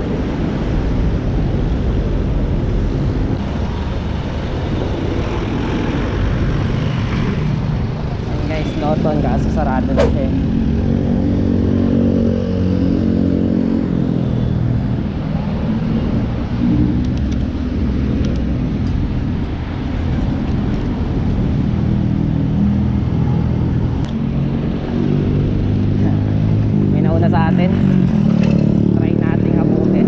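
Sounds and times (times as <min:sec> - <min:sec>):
cars and motorcycles passing: 0:00.0 - 0:30.0
steady low traffic rumble: 0:00.0 - 0:30.0.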